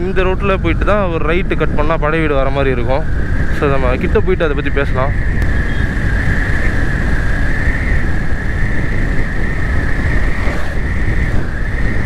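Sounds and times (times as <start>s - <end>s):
motorcycle high hum: 0.0s - 12.0s
wind rumble on microphone: 0.0s - 12.0s.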